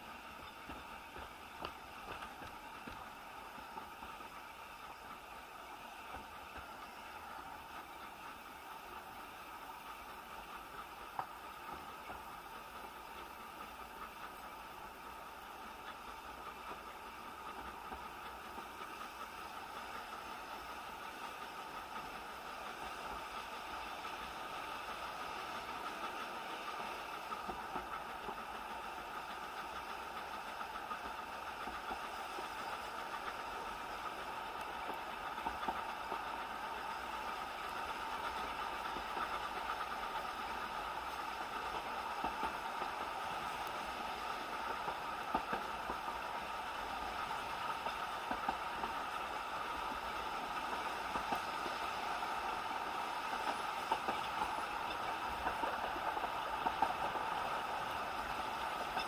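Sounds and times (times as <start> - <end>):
sharp clicks of rails: 0.0 - 59.0
train wheels rumbling on rails: 0.0 - 59.0.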